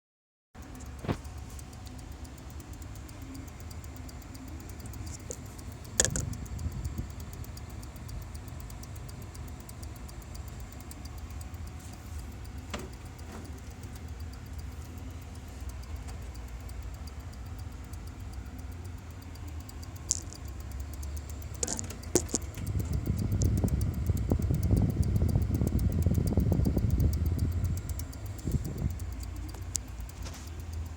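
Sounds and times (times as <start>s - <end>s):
fast high ticking: 0.6s - 30.9s
power supply humming: 0.6s - 30.9s
sharp clicks: 0.6s - 30.9s.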